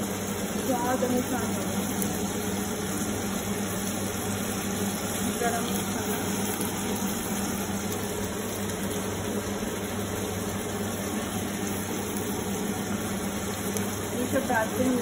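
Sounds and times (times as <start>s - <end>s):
vegetables frying in oil: 0.0s - 15.0s.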